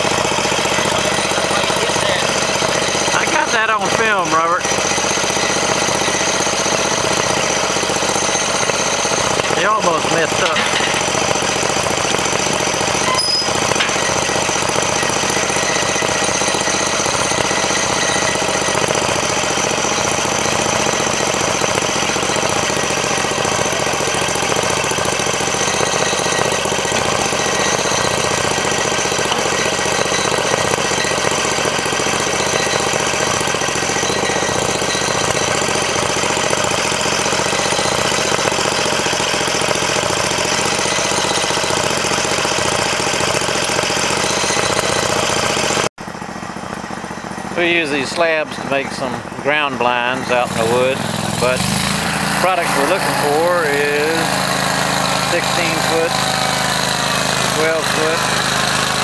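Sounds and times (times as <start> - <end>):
sawmill engine and saw running: 0.0 - 59.0.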